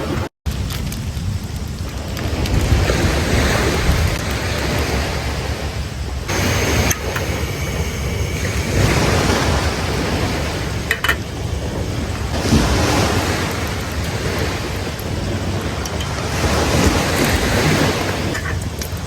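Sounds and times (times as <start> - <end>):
sea waves washing onto beach: 0.0 - 19.0
wind buffeting microphone: 0.0 - 19.0.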